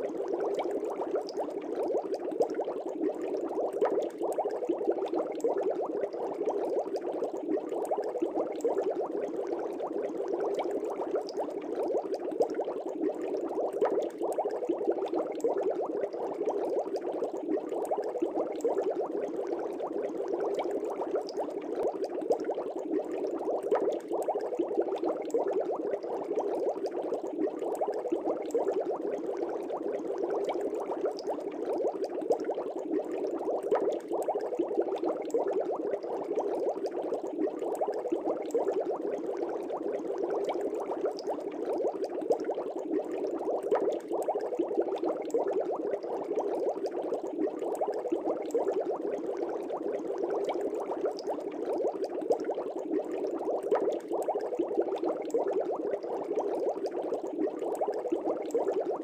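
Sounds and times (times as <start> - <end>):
aquarium bubbling: 0.0 - 59.0.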